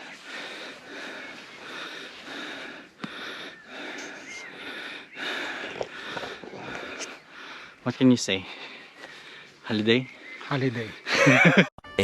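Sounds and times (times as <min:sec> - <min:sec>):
person panting: 0:00.0 - 0:09.6.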